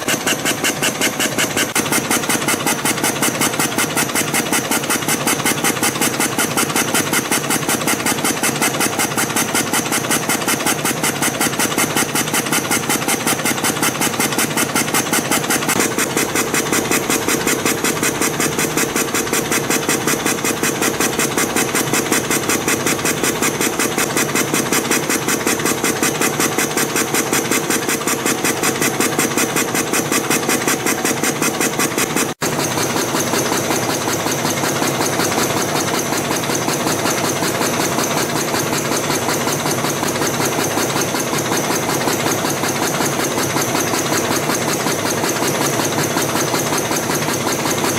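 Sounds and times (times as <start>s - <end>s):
spring coiling machine clatter: 0.0s - 47.9s.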